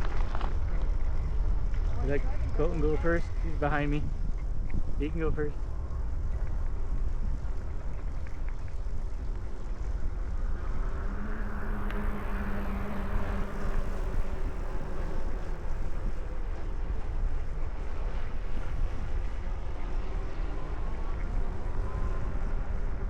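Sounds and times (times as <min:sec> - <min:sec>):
passing motor vehicle hum: 0:00.0 - 0:23.0
wind rumbling on microphone: 0:00.0 - 0:23.0.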